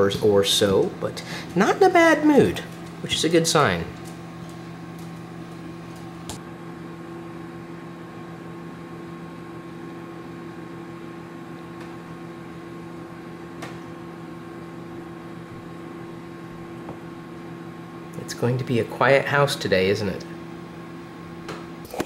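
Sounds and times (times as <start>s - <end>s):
appliance electrical hum: 0.0s - 22.0s.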